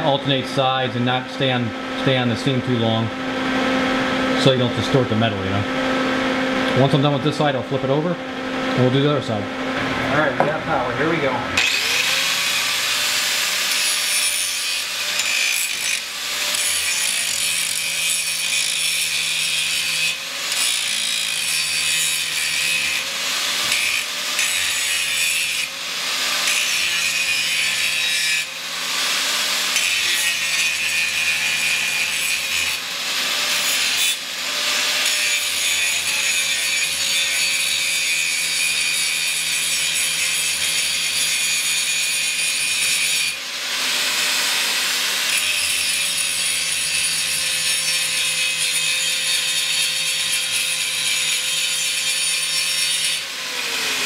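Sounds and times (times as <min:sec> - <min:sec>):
angle grinder grinding steel: 0:08.7 - 0:54.0.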